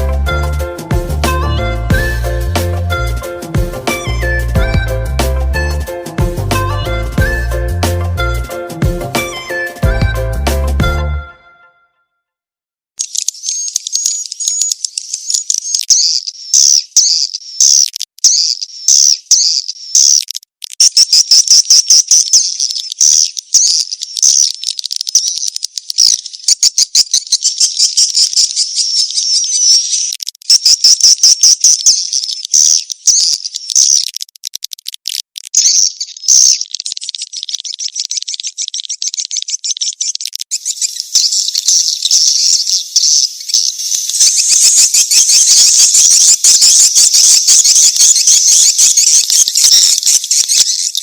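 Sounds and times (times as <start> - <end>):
swiftlets chirping and trilling: 0.0 - 5.0, 8.3 - 9.9, 13.0 - 51.0.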